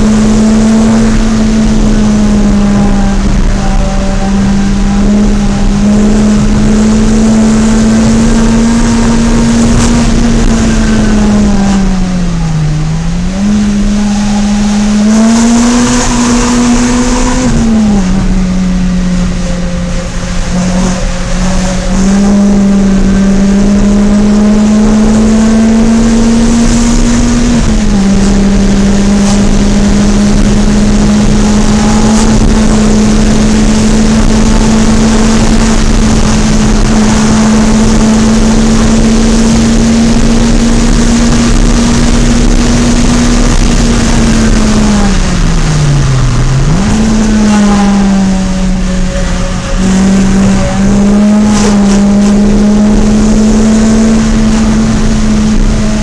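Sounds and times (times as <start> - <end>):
car engine while driving: 0.0 - 56.0.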